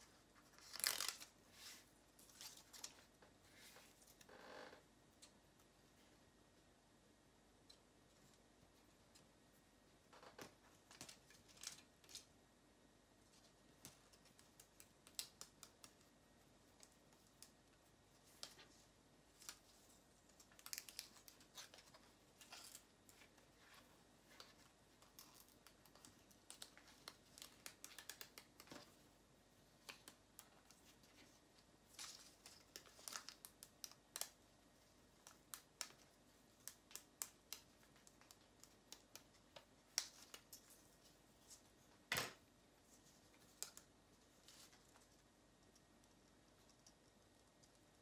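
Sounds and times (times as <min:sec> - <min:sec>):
small clicks and rustles: 0:00.0 - 0:06.1, 0:07.6 - 0:12.4, 0:13.2 - 0:48.0.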